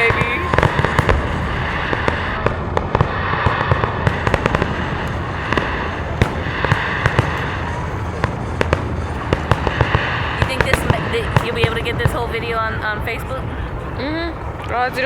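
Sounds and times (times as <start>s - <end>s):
fireworks cracks and bangs: 0.0s - 15.0s
rumble of distant shell bursts: 0.0s - 15.0s.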